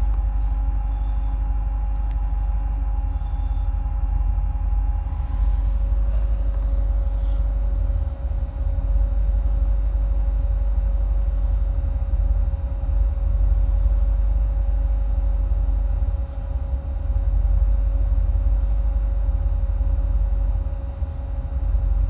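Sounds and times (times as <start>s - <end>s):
engine idling with exhaust rumble: 0.0s - 22.0s
steady whine: 0.0s - 22.0s.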